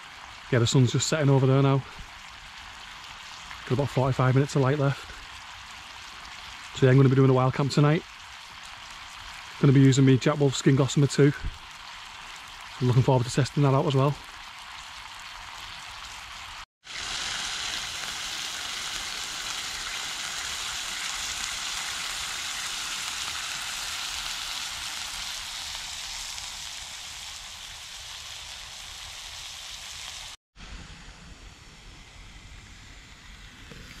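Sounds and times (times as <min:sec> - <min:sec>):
steak sizzling in a frying pan: 0:00.0 - 0:03.7, 0:04.7 - 0:07.1, 0:07.7 - 0:10.0, 0:10.6 - 0:13.0, 0:13.6 - 0:30.4.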